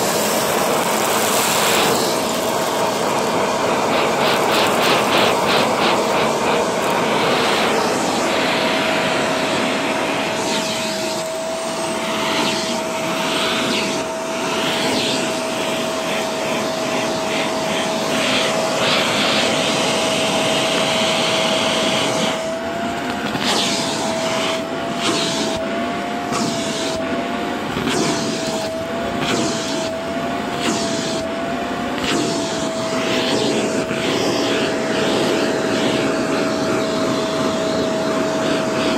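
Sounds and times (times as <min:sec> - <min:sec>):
vacuum cleaner on carpet: 0:00.0 - 0:38.9.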